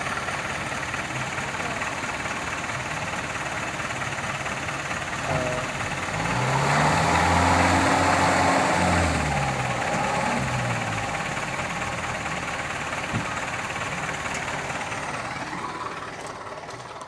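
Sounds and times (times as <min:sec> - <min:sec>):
truck engine idling and revving: 0:00.0 - 0:17.0.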